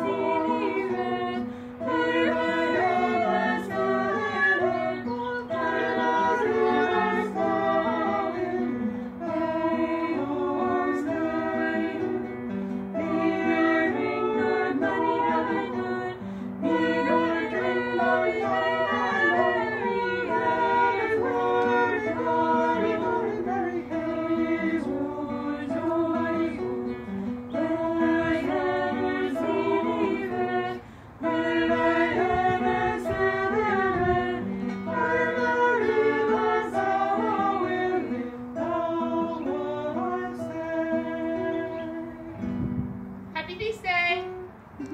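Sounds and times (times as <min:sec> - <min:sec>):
women's choir singing: 0:00.0 - 0:42.6
strummed acoustic guitar: 0:00.0 - 0:44.9.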